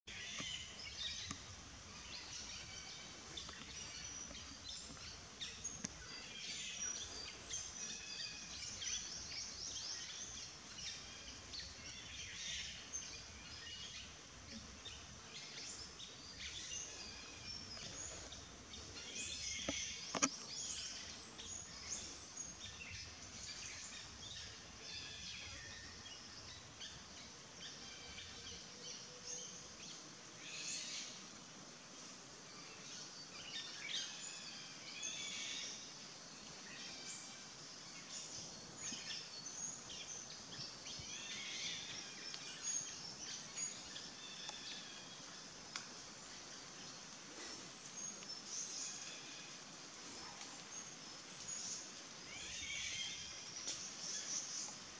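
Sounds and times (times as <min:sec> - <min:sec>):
small birds chirping: 0:00.0 - 0:28.7, 0:32.6 - 0:54.9
faint outdoor hiss: 0:00.0 - 0:54.9.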